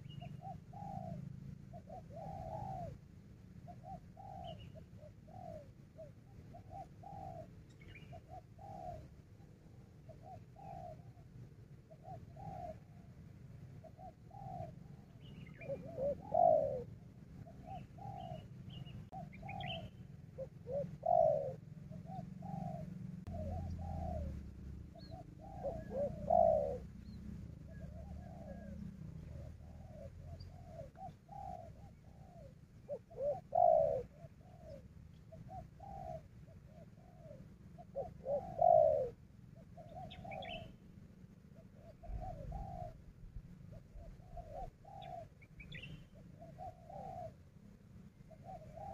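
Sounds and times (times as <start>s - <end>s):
doves cooing: 0.0s - 48.9s
small birds chirping faintly: 0.0s - 48.9s.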